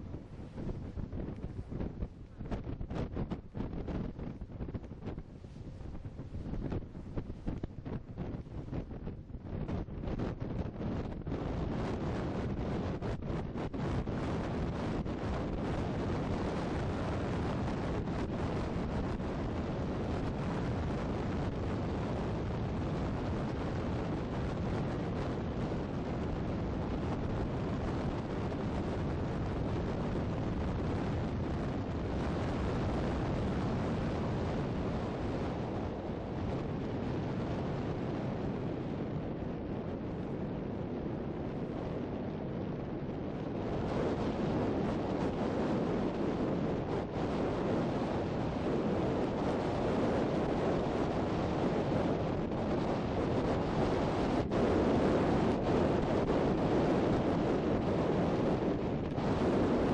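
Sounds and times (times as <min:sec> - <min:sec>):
boat engine rumble: 0:00.0 - 0:59.9
water rushing along hull: 0:00.0 - 0:59.9
wind buffeting microphone: 0:00.0 - 0:59.9.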